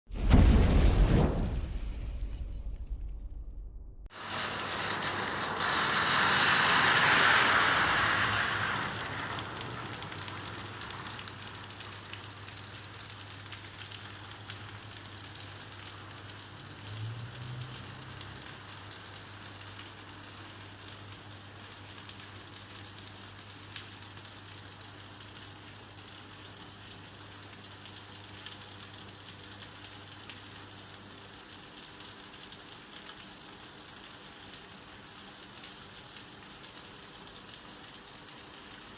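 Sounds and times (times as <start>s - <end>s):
rain hiss: 4.1s - 38.9s.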